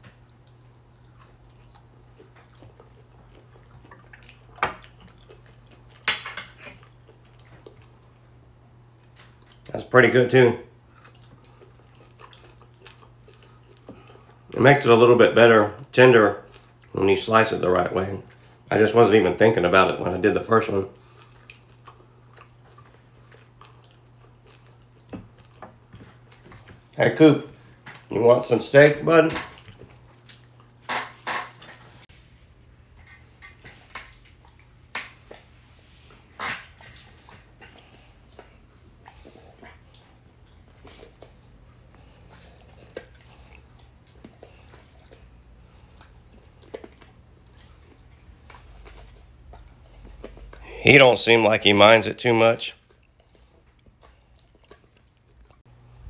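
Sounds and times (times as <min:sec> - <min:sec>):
quiet chewing: 0:00.0 - 0:10.0, 0:10.7 - 0:15.0, 0:15.7 - 0:17.1, 0:19.5 - 0:28.2, 0:29.4 - 0:30.8, 0:32.0 - 0:55.8.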